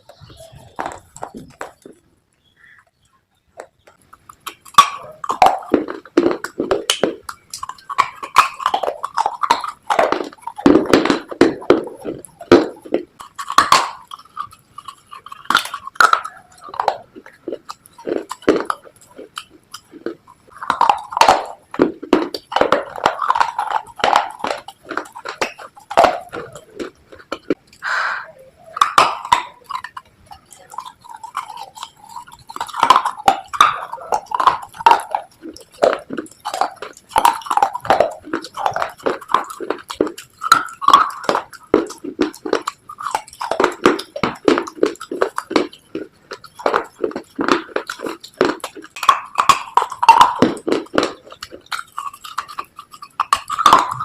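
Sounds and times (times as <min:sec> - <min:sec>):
chewing crunchy slate: 0:00.0 - 0:54.0
wet mouth sounds: 0:00.0 - 0:54.0.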